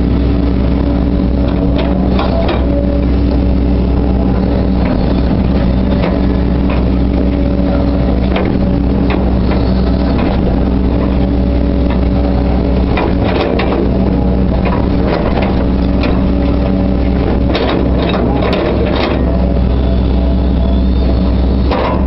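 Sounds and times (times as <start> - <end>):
excavator diesel engine running: 0.0 - 22.0
bucket and hydraulics clanking: 1.3 - 22.0.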